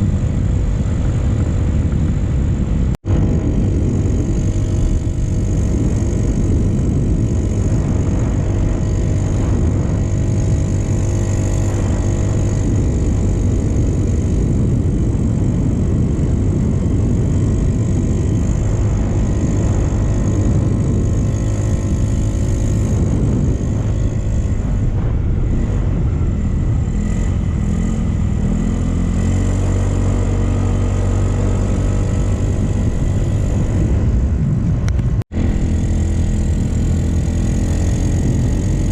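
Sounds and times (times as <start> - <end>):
low road rumble: 0.0 - 38.9
motorcycle engine running: 0.0 - 38.9.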